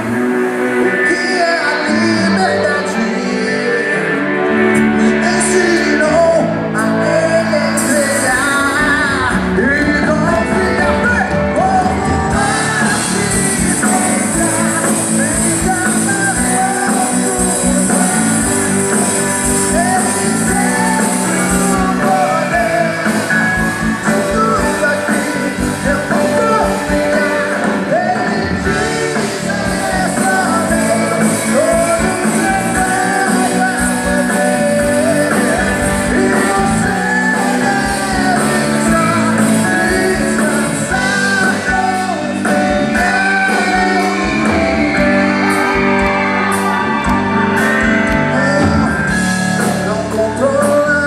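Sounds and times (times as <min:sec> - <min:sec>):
electric guitar: 0:00.0 - 0:51.0
man singing into microphone: 0:00.0 - 0:51.0
steady drum beat: 0:08.8 - 0:50.2.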